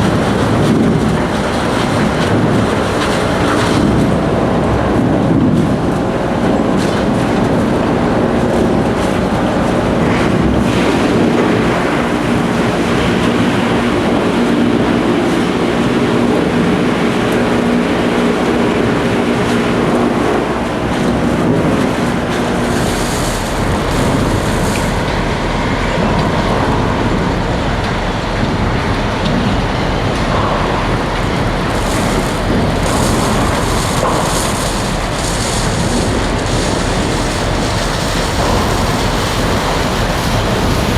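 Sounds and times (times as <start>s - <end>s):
wood chipper drone: 0.0s - 40.9s.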